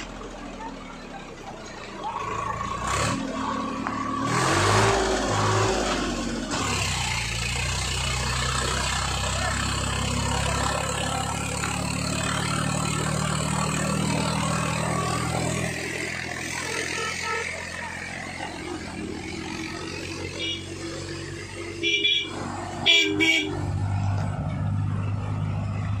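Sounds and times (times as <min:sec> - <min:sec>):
tractor diesel engine: 0:00.0 - 0:26.0.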